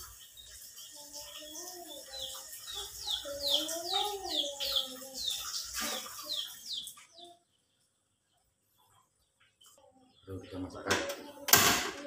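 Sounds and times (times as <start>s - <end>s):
bird chirping: 0.0s - 11.5s.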